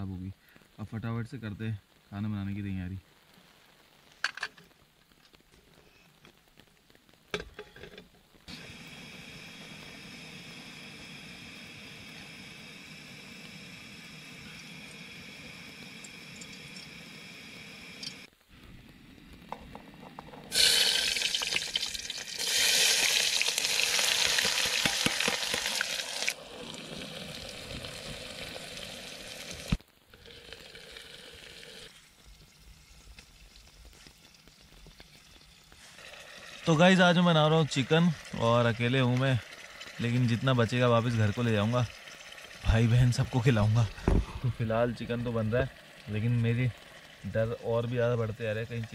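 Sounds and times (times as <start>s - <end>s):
onions sizzling in hot oil: 8.4s - 18.3s, 18.9s - 48.9s.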